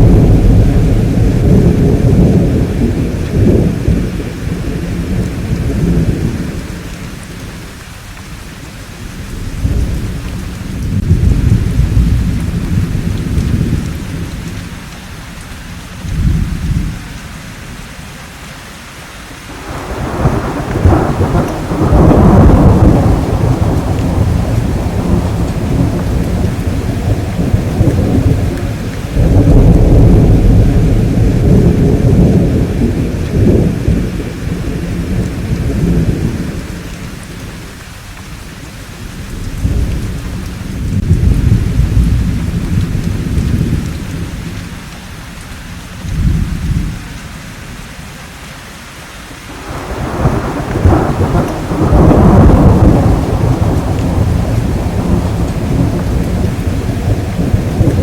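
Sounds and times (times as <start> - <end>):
rolling thunder: 0.0 - 7.8, 8.9 - 14.9, 16.0 - 17.1, 19.5 - 38.1, 38.7 - 45.2, 46.0 - 47.1, 49.5 - 58.0
steady rain hiss: 0.0 - 58.0.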